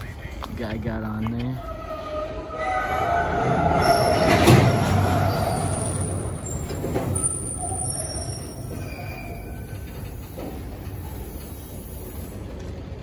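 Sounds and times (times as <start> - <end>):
train rumble: 0.0 - 13.0
steel wheels squealing: 1.6 - 12.4.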